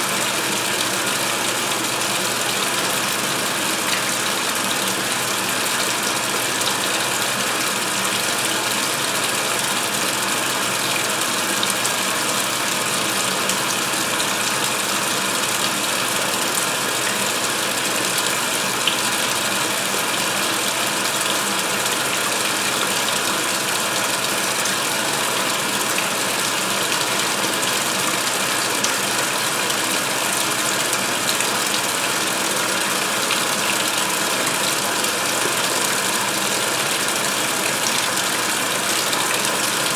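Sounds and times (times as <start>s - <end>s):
water pouring into washer tub: 0.0s - 39.9s.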